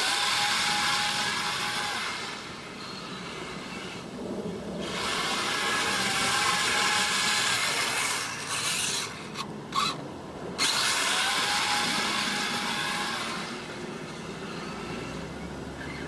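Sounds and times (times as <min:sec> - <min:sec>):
toy vehicle motor and tracks whirring: 0:00.0 - 0:04.1, 0:04.8 - 0:10.0, 0:10.6 - 0:16.0.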